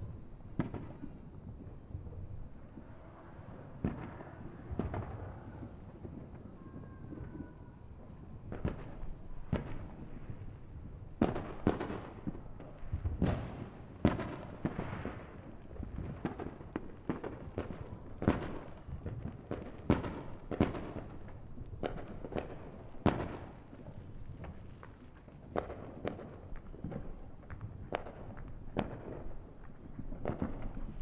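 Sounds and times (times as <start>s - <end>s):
distant fireworks bangs and pops: 0.0s - 31.0s.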